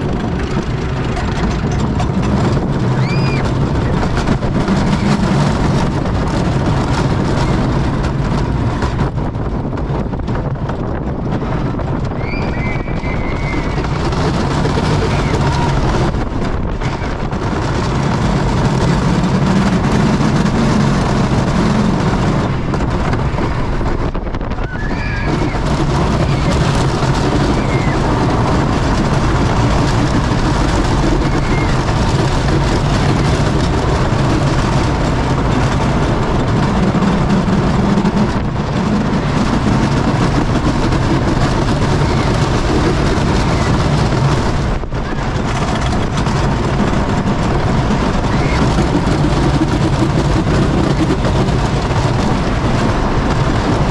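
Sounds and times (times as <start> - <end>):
roller coaster rumbling on wooden track: 0.0 - 53.9
wind rushing over microphone: 0.0 - 53.9.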